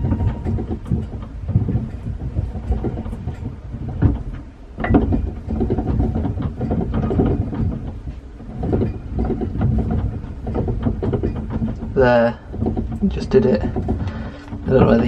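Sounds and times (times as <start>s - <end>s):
low rumble: 0.0s - 15.0s
rudder steering arm clunking: 0.0s - 15.0s.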